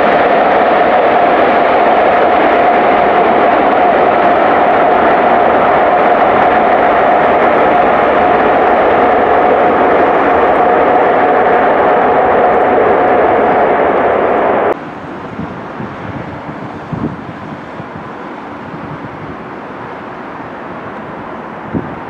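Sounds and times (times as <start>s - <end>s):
jet engine whine: 0.0s - 22.0s
wind buffeting microphone: 0.0s - 22.0s.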